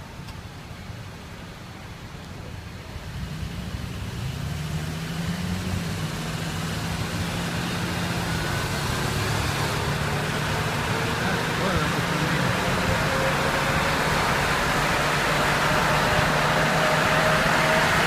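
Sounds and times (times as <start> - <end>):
tyre and road noise: 0.0 - 18.0
vehicle engine hum: 0.0 - 18.0.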